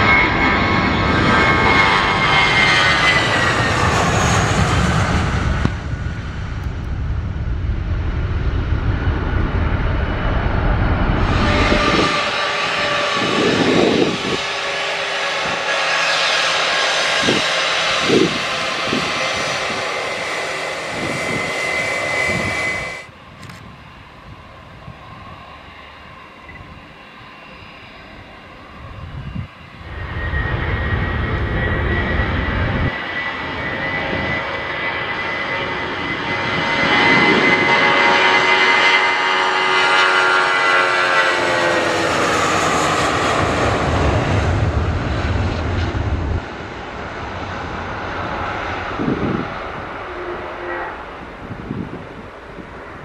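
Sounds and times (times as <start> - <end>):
jet engine whine: 0.0 - 53.0
jet engines spooling up: 0.0 - 53.0.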